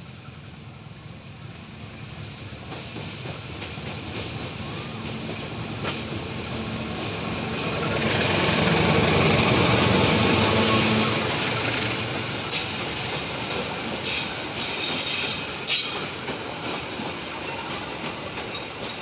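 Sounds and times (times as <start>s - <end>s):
train wheels rumbling on rails: 0.0s - 19.0s
locomotive engine hum: 3.4s - 18.9s.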